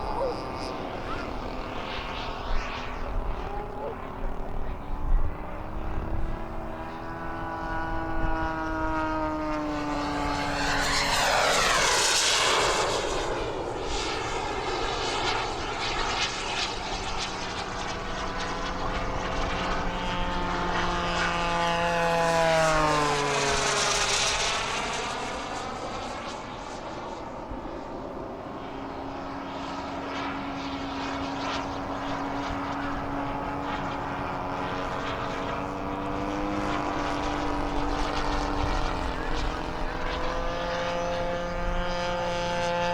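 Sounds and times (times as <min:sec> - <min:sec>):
model airplane engine passing: 0:00.0 - 0:42.9.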